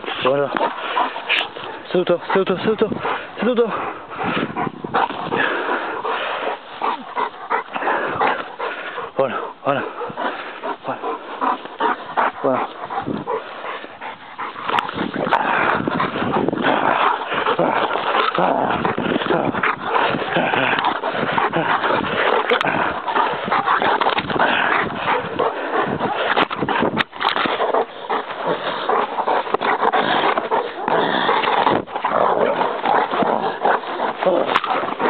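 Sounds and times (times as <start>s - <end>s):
dogs growling and whimpering: 0.0s - 35.0s.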